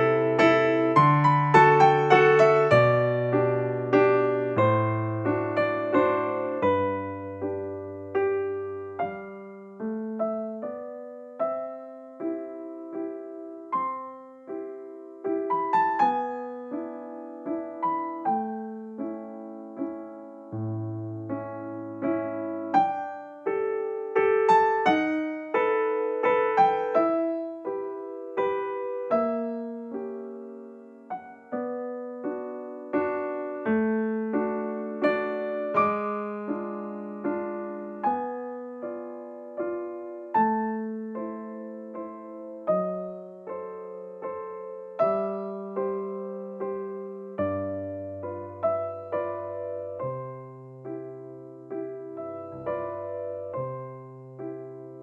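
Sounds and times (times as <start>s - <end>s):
gentle electric piano piece: 0.0s - 55.0s.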